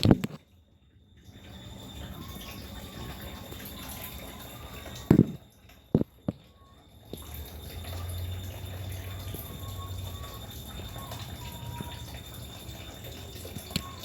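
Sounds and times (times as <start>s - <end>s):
water running: 0.0s - 14.0s.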